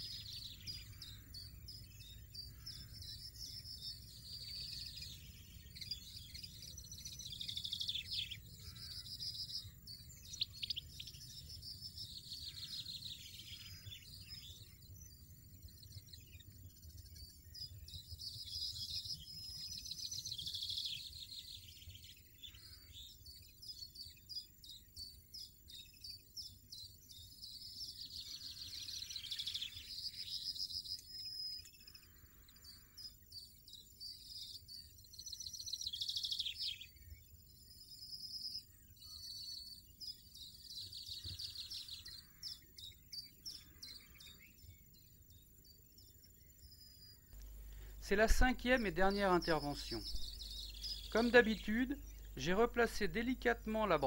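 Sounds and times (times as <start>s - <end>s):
nestlings chirping and trilling: 0.0s - 54.0s.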